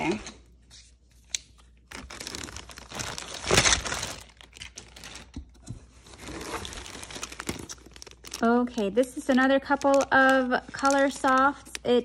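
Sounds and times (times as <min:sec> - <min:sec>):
plastic packaging crinkling: 0:01.6 - 0:12.0.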